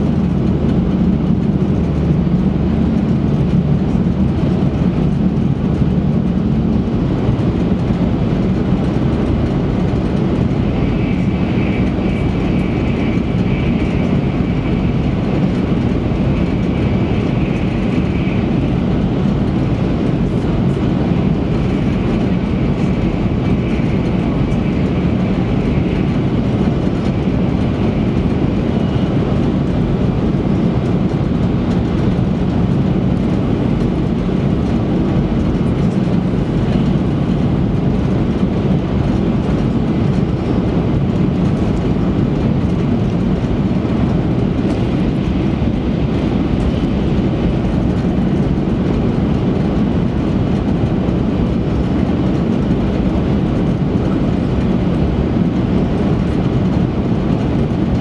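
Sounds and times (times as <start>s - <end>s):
train cabin noise: 0.0s - 58.0s.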